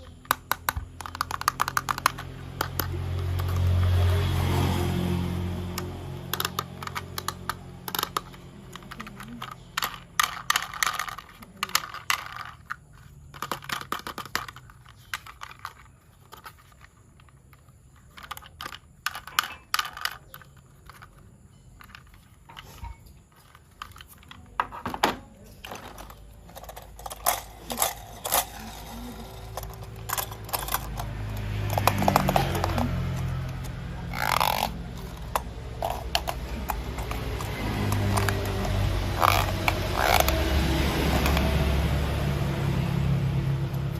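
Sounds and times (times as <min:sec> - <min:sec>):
plastic toy parts clicking: 0:00.0 - 0:03.8, 0:05.7 - 0:24.8, 0:25.6 - 0:41.6.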